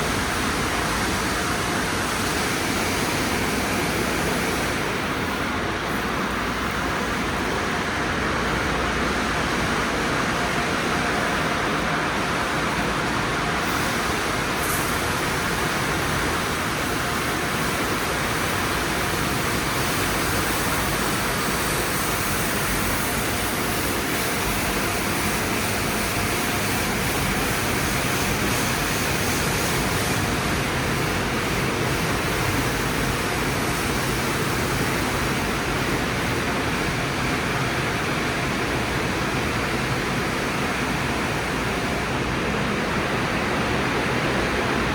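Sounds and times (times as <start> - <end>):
car wash spray and machinery: 0.0 - 44.9.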